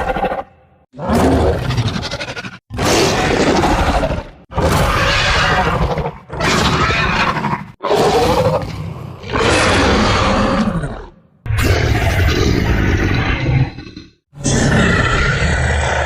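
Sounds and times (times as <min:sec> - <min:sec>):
dinosaur roars: 0:00.0 - 0:16.0.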